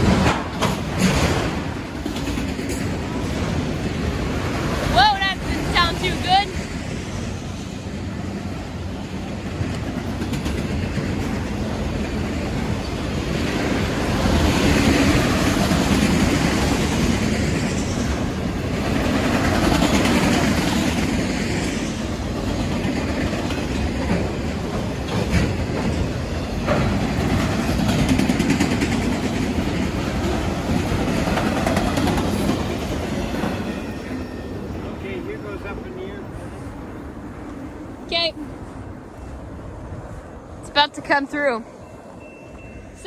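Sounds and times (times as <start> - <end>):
wheels clicking over rail joints: 0.0 - 6.8, 8.8 - 37.8
train rolling past: 0.0 - 43.0.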